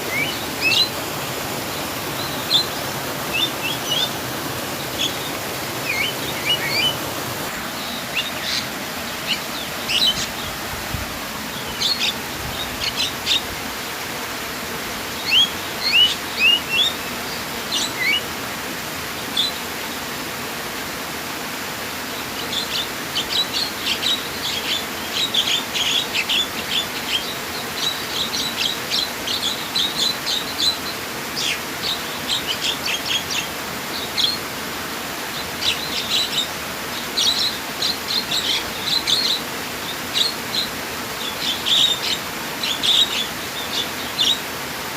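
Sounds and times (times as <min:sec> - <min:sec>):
small birds chirping: 0:00.0 - 0:13.5, 0:15.1 - 0:18.3, 0:22.2 - 0:34.5, 0:35.2 - 0:44.5
flowing water rushing: 0:00.0 - 0:44.9.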